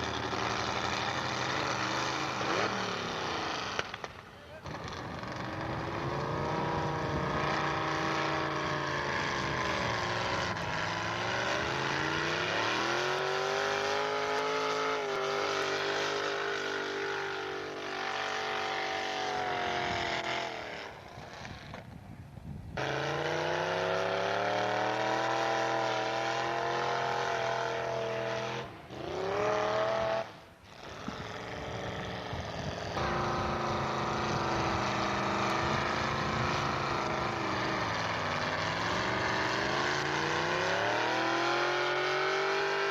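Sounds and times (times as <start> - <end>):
truck engine under heavy load: 0.0 - 42.9.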